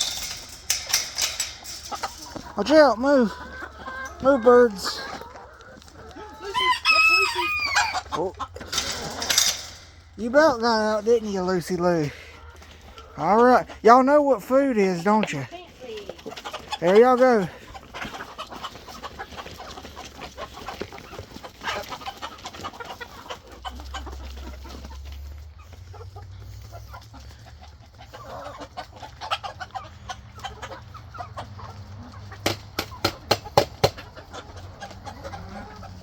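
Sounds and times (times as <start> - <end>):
chickens clucking softly: 0.0 - 14.0, 14.8 - 36.0.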